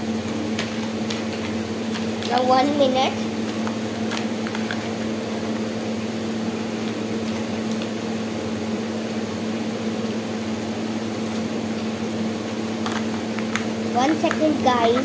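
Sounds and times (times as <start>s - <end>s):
appliance machine hum: 0.0s - 15.0s.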